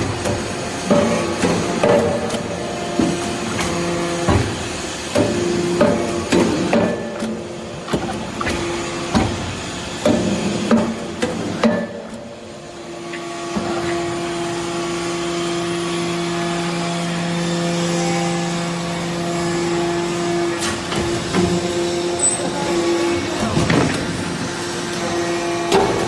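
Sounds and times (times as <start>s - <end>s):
machine hum with held tone: 0.0s - 26.0s.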